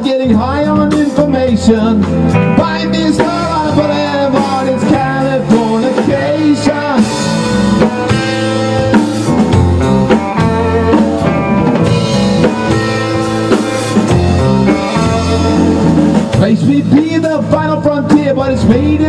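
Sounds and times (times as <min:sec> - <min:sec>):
person singing: 0:00.0 - 0:07.9, 0:10.1 - 0:12.7, 0:13.6 - 0:19.0
rock band playing live: 0:00.0 - 0:19.0.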